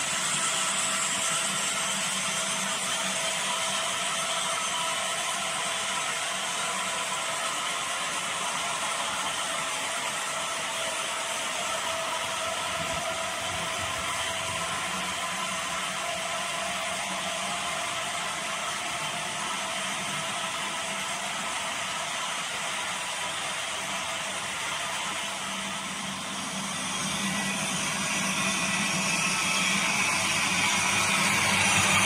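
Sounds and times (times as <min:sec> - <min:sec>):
model train wheels rolling on rails: 0:00.0 - 0:32.0.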